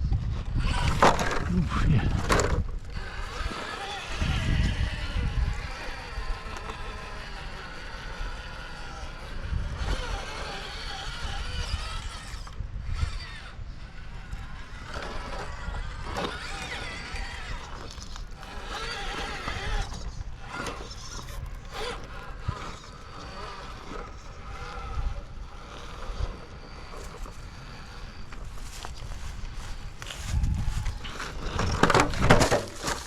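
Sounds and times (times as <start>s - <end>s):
small electric motor whining: 0.0s - 33.0s
knocks and scrapes on rock: 0.3s - 33.0s.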